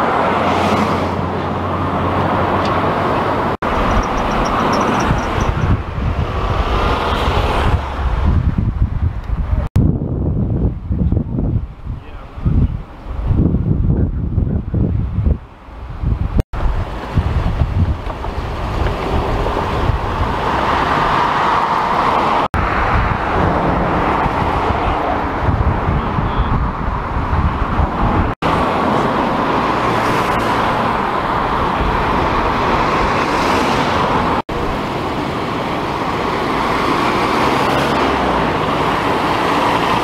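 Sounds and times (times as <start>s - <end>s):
cars passing on street: 0.0s - 40.0s
wind buffeting microphone: 0.0s - 40.0s.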